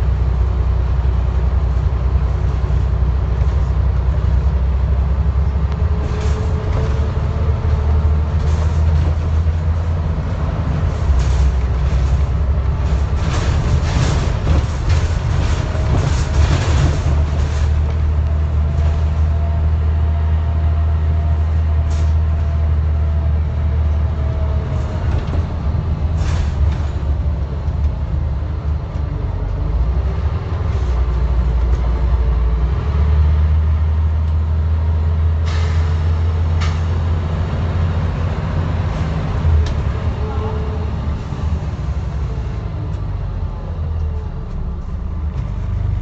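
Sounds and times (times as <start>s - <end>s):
bus diesel engine drone: 0.0s - 46.0s.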